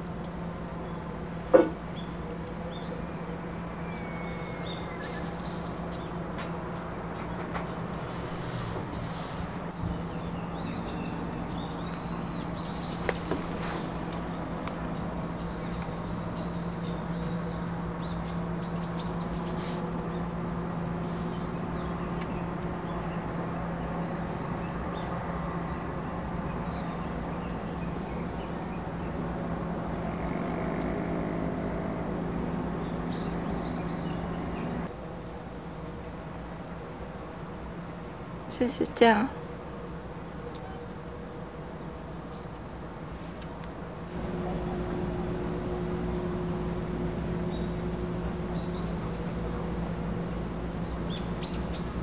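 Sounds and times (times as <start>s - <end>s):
low mechanical hum: 0.0s - 36.5s, 42.0s - 52.0s
small birds chirping: 0.0s - 52.0s.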